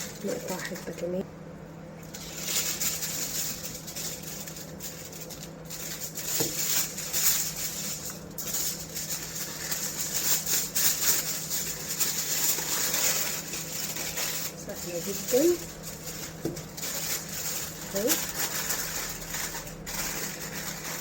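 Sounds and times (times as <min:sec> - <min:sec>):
aluminium foil crinkling: 0:00.0 - 0:01.2, 0:02.0 - 0:21.0
steady low hum: 0:00.0 - 0:21.0.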